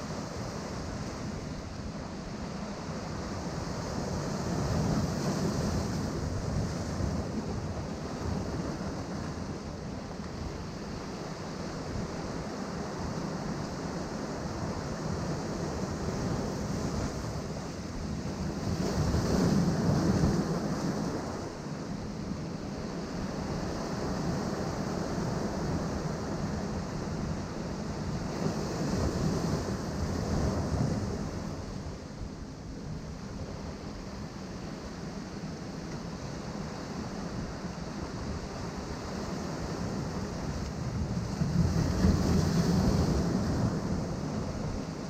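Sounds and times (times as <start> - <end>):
wind on microphone: 0.0 - 45.0.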